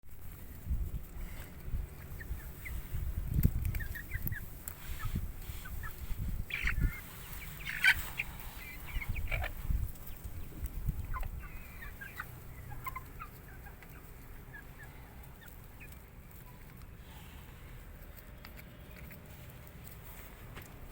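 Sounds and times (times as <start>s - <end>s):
chickens clucking: 0.2s - 20.9s.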